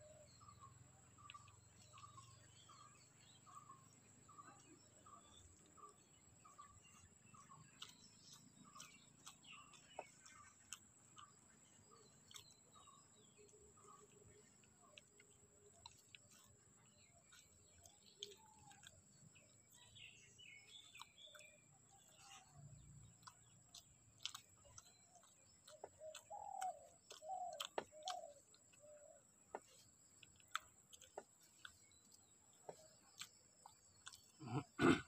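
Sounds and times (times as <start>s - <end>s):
birds calling: 0.0s - 35.0s
faint clicks of eating: 0.0s - 35.0s.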